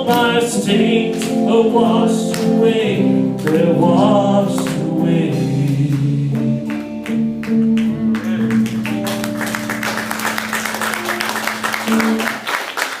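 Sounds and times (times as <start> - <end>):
live band playing: 0.0 - 12.6.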